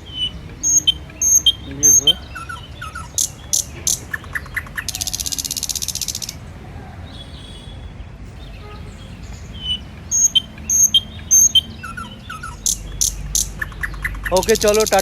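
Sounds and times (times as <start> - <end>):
high bird chirps: 0.0 - 6.5, 7.1 - 15.0.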